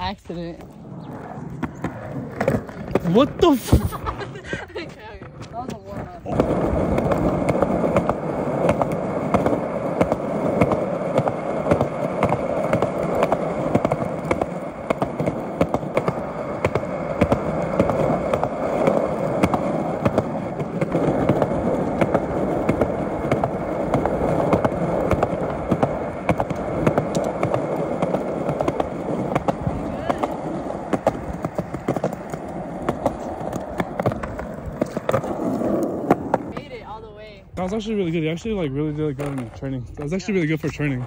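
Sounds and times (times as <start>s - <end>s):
skateboard wheels rolling on concrete: 0.0s - 41.0s.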